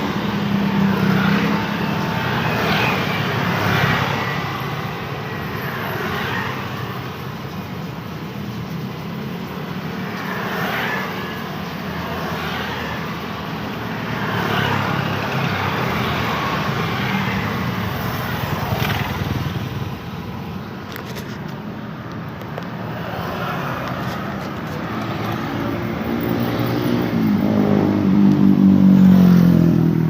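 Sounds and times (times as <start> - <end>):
cars and motorcycles passing: 0.0 - 30.0.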